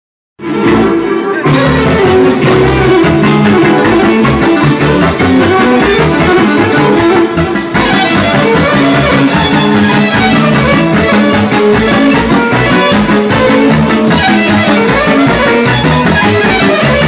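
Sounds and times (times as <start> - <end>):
drum kit: 0.4 - 17.0
electric guitar: 0.4 - 17.0.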